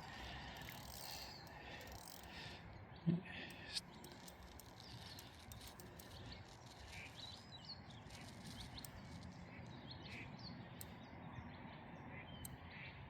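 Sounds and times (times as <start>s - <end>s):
faint small bird chirps: 0.0s - 13.0s
low outdoor background noise: 0.0s - 13.0s.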